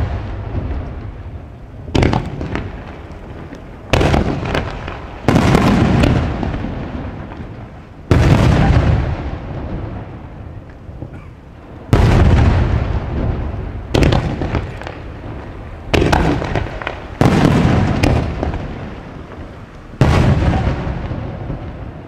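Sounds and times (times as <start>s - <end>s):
firework booms: 0.0s - 22.0s
firework crackling: 0.0s - 22.0s.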